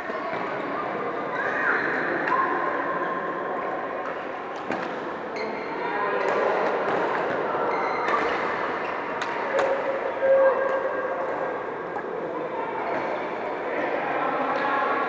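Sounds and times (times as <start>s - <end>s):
babble of voices: 0.0s - 15.0s.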